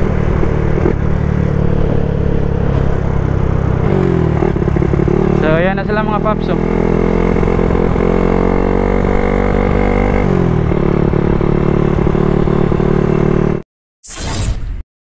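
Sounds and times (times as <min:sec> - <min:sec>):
motorcycle engine running hard: 0:00.0 - 0:13.6
wind: 0:00.0 - 0:14.6.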